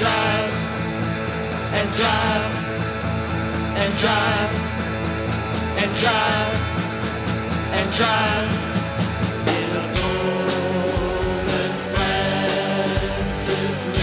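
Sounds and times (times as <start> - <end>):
rock band music: 0.0 - 14.0.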